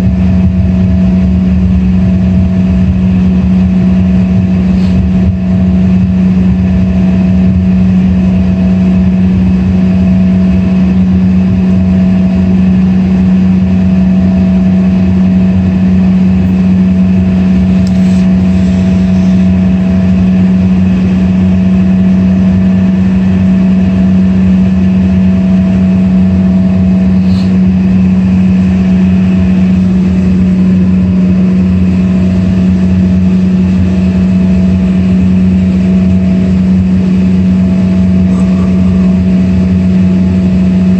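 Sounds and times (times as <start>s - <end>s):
jet engines humming in cabin: 0.0s - 40.9s.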